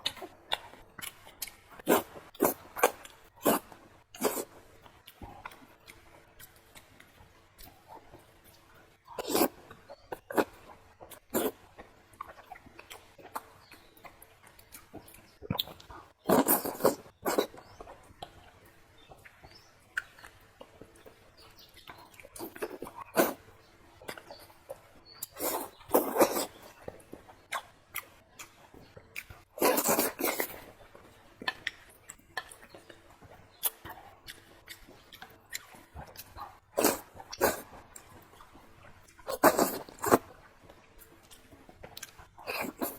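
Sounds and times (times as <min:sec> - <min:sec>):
wet chewing and mouth sounds: 0:00.0 - 0:42.9.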